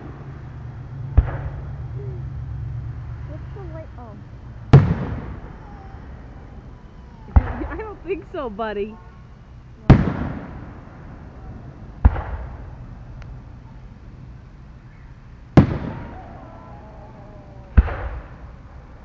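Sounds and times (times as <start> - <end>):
fireworks booming: 0.0 - 14.6, 15.3 - 19.0.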